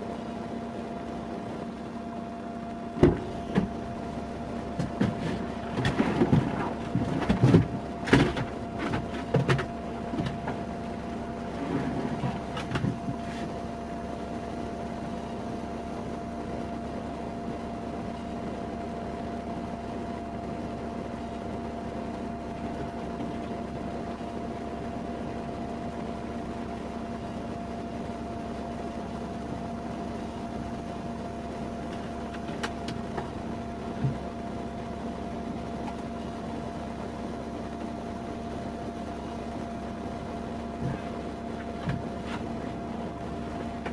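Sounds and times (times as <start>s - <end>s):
two-tone machine hum: 0.0s - 43.9s.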